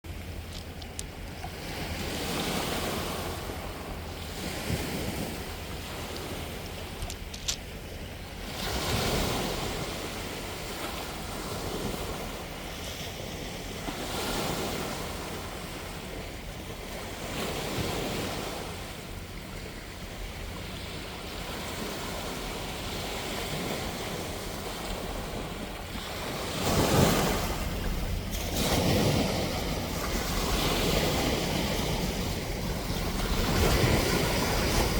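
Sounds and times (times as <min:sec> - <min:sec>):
sea waves breaking: 0:00.1 - 0:34.9.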